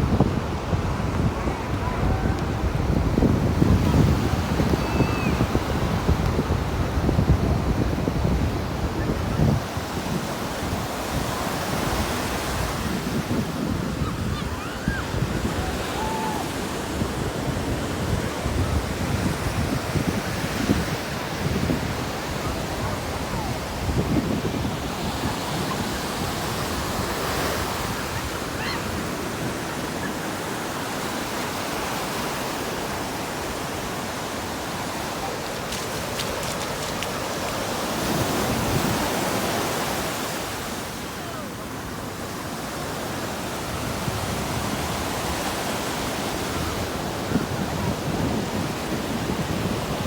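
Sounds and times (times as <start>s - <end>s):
ocean surf breaking on beach: 0.0s - 50.0s.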